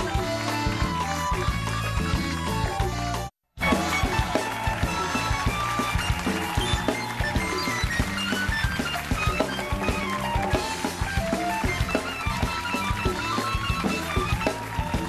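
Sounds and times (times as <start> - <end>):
bass: 0.0 - 15.0
electric guitar with bent notes: 0.0 - 15.0
steady drum beat: 0.0 - 15.0.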